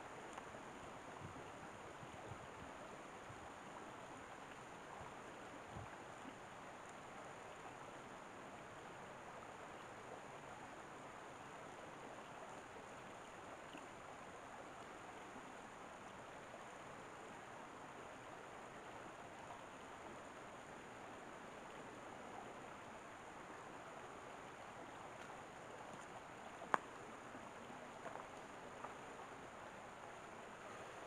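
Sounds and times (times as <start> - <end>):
stream babbling over stones: 0.0 - 31.0.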